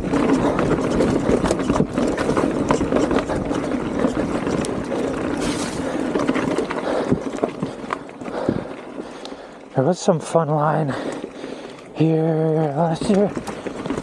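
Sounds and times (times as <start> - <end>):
bike rattling and knocking: 0.0 - 14.0
bike tyres rolling on dirt: 0.0 - 14.0.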